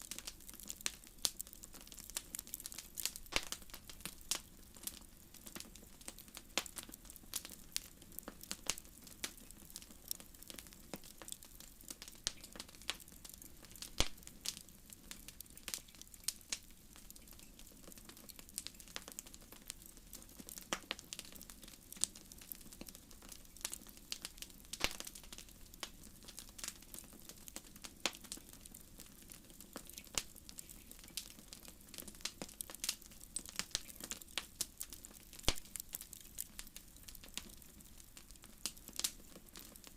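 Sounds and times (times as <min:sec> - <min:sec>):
low hiss of burning: 0:00.0 - 0:39.9
wood fire crackling: 0:00.0 - 0:39.9
sharp pops and snaps: 0:00.1 - 0:39.8.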